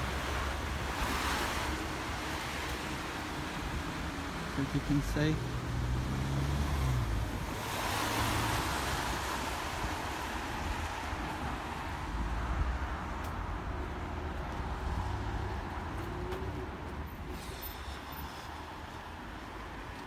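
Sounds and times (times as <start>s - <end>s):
car passing by: 0.0s - 20.0s
low traffic rumble: 0.0s - 20.0s.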